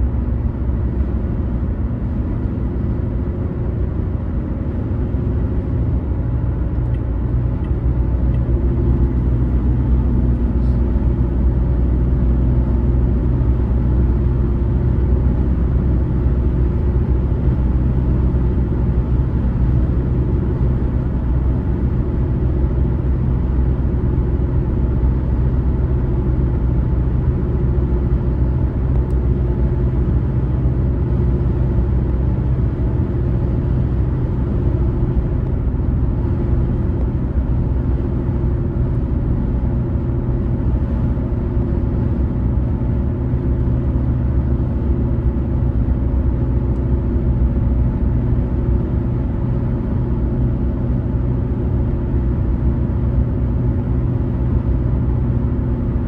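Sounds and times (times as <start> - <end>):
car tyre and engine rumble: 0.0 - 56.0.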